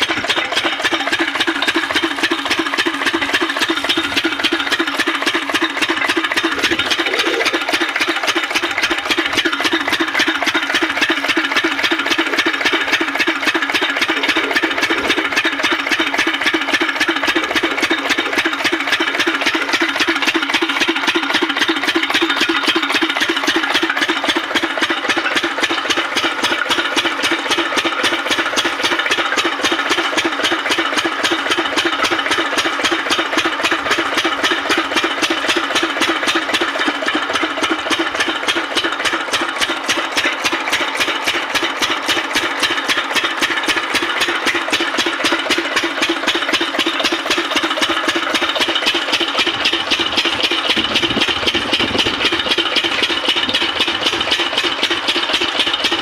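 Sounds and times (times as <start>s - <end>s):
diesel pump engine running: 0.0s - 56.0s.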